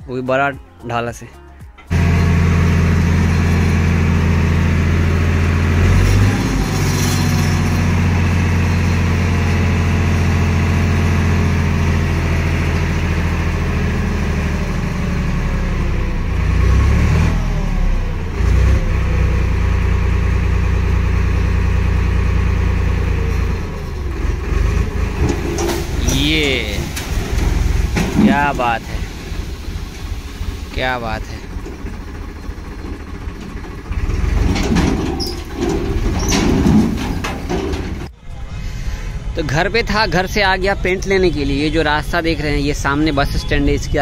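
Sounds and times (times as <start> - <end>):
tractor diesel engine revving: 1.8 - 39.3.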